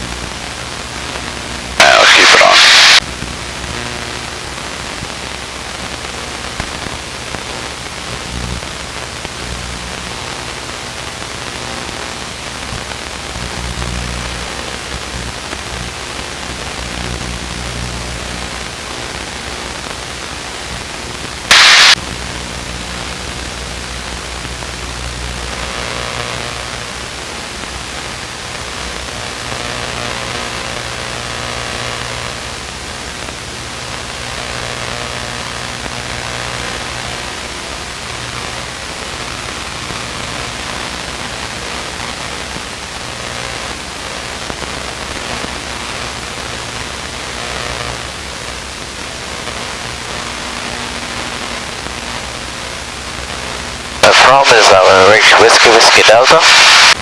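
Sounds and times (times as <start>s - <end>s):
loud burst of static: 0.0s - 57.0s.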